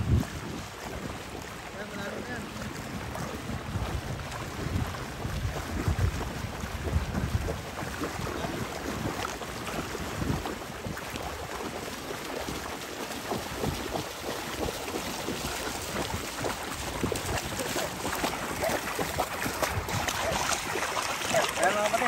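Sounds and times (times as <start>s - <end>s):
seawater splashing from wading: 0.0s - 22.0s.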